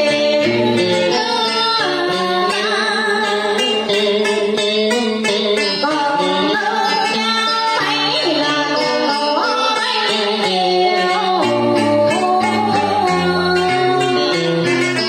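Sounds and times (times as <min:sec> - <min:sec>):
amplified instrumental backing music: 0:00.0 - 0:15.0
woman singing into microphone: 0:00.0 - 0:15.0.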